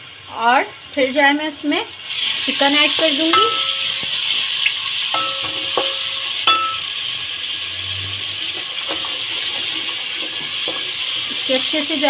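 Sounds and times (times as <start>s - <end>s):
paste sizzling in hot oil: 1.9s - 12.0s.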